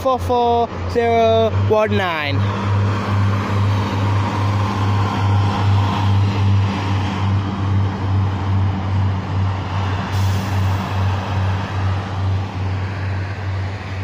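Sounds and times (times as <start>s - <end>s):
diesel train idling: 0.0s - 14.0s.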